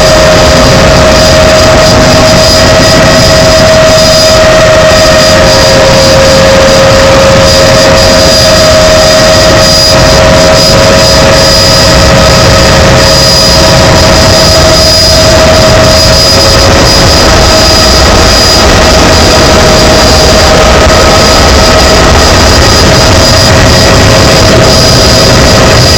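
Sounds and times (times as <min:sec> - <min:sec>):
helicopter engine and rotors: 0:00.0 - 0:25.9.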